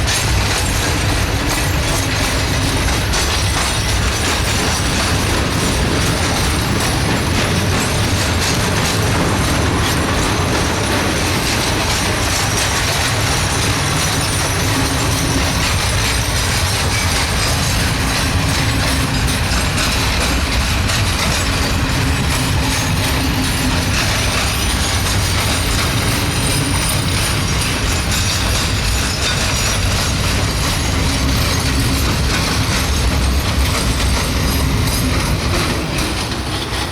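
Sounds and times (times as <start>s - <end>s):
diesel train rumbling: 0.0s - 36.9s
train wheels clattering on rails: 0.0s - 36.9s.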